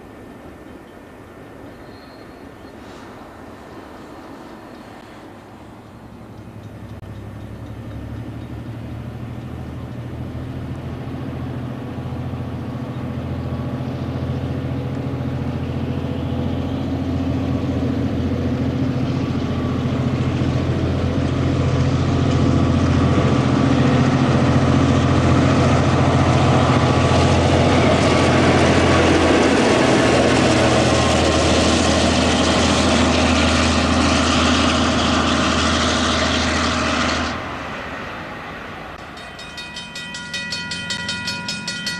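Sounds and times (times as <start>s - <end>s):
diesel locomotive engine droning: 0.0s - 41.9s.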